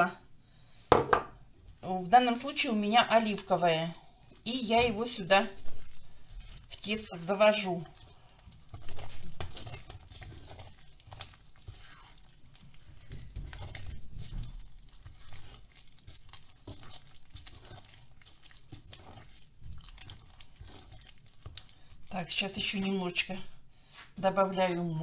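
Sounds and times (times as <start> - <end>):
hand kneading wet dough: 1.6 - 25.0.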